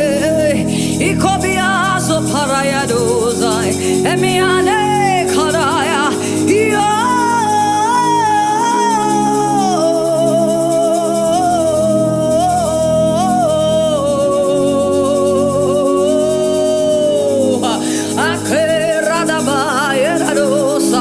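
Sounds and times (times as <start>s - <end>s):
keyboard chords: 0.0s - 21.0s
person singing: 0.0s - 21.0s.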